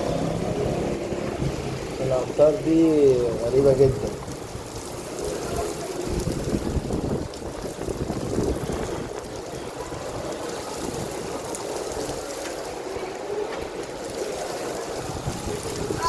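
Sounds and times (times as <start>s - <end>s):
heavy rain: 0.0s - 16.0s
running water: 0.0s - 16.0s.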